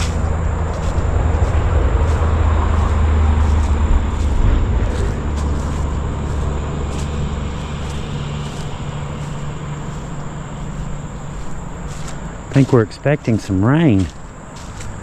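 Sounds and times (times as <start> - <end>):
vehicle passing with low rumble: 0.0 - 15.0.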